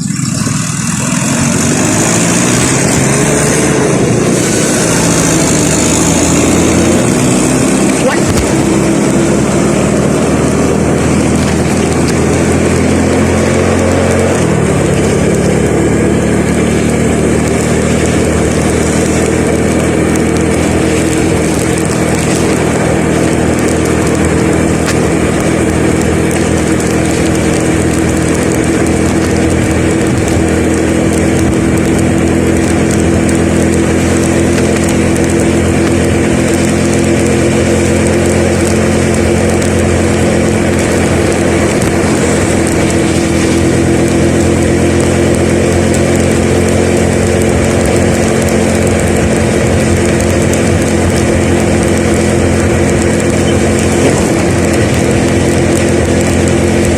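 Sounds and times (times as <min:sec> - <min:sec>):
road noise: 0:00.0 - 0:56.9
vehicle engine running: 0:00.0 - 0:56.9.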